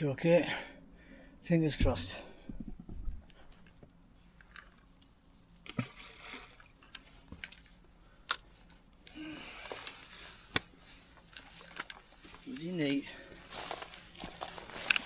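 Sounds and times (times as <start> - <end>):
faint river water: 0.0 - 15.0.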